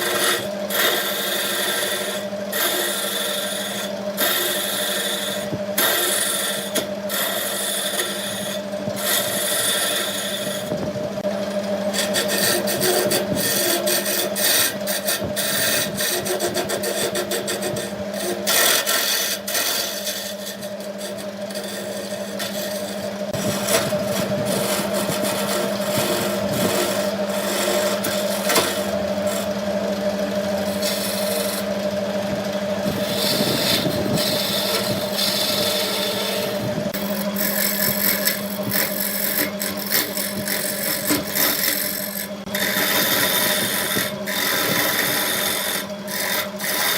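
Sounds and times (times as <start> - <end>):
lathe motor hum: 0.0 - 46.9
tool scraping spinning wood: 0.0 - 46.9.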